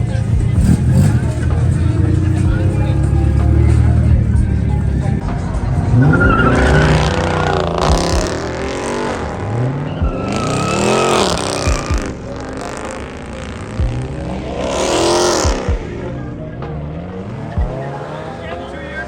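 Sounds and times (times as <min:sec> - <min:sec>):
low thumps: 0:00.0 - 0:18.0
car engine revving: 0:00.0 - 0:19.0.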